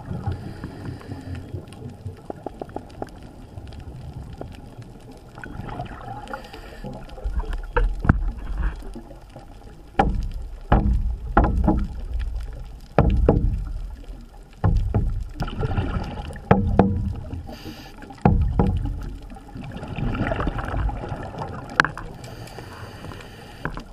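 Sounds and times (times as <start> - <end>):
exhaled bubbles rushing underwater: 0.0 - 23.9.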